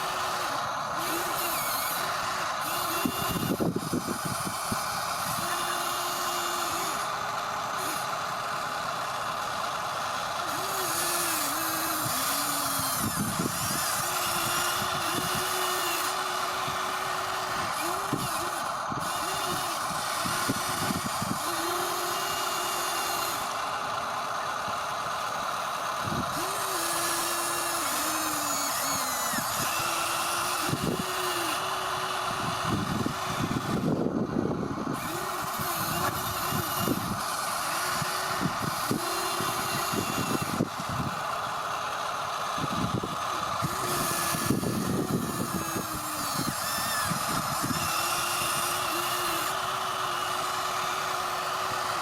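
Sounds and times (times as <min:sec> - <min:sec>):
small electric motors whining: 0:00.0 - 0:52.0.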